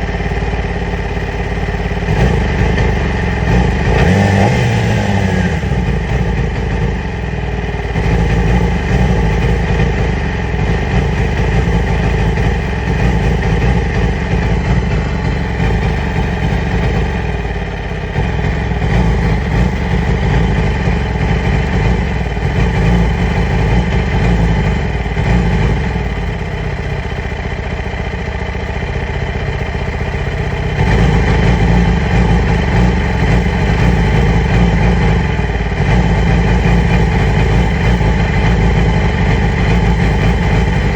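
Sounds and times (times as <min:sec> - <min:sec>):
motorcycle engine idling roughly: 0:00.0 - 0:40.9.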